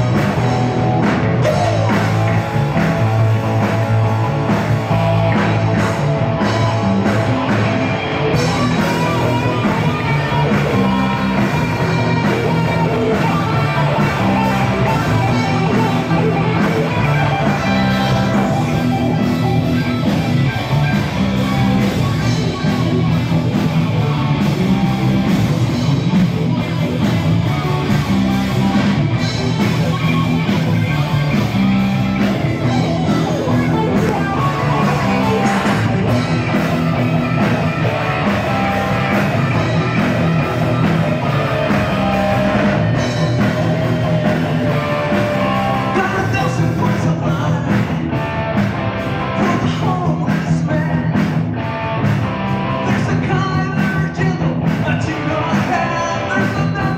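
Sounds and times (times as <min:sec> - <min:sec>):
rock band with electric guitar: 0:00.0 - 0:56.9.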